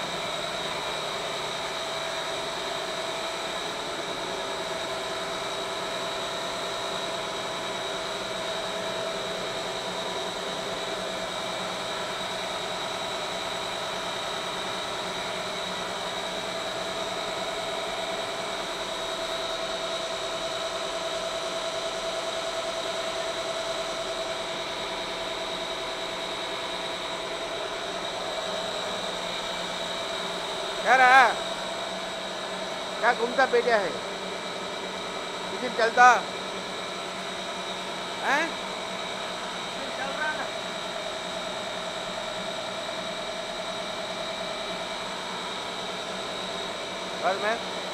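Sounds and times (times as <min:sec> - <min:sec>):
machinery humming and whining: 0:00.0 - 0:47.9.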